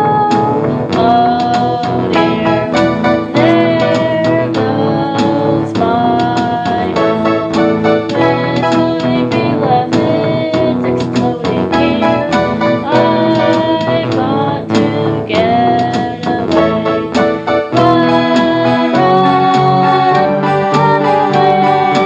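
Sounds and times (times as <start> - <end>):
song with busy instrumental run: 0.0 - 22.0.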